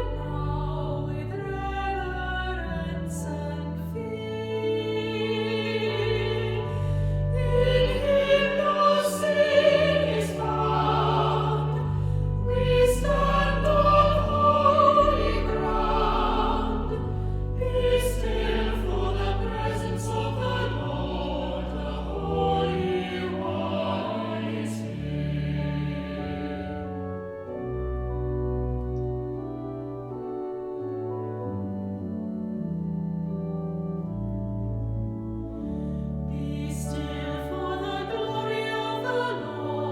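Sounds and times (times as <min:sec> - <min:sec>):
choir singing a hymn: 0:00.0 - 0:32.6, 0:35.4 - 0:39.9
held keyboard chords: 0:00.0 - 0:39.9.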